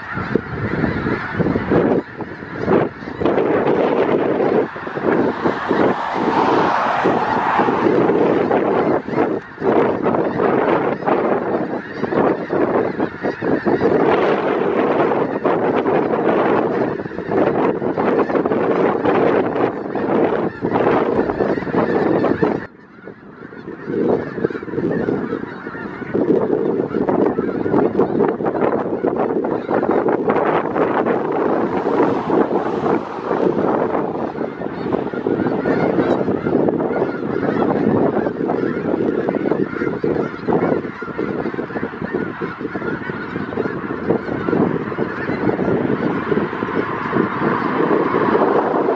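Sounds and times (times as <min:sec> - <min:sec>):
flock of geese honking: 0:00.0 - 0:48.9.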